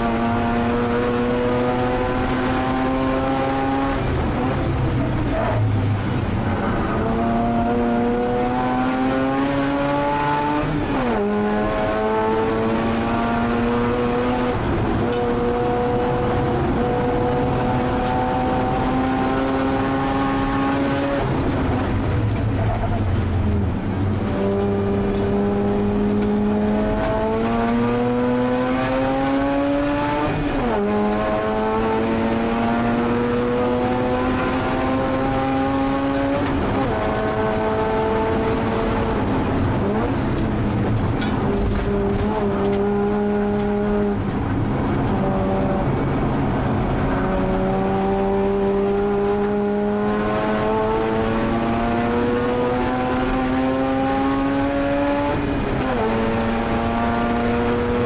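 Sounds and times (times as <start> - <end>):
rotary race car engine: 0.0 - 58.0.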